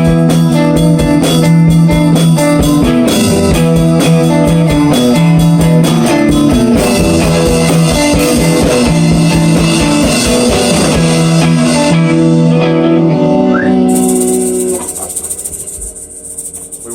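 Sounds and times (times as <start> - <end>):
bass guitar: 0.0 - 16.9
drum kit: 0.0 - 16.9
electric guitar riff: 0.0 - 16.9.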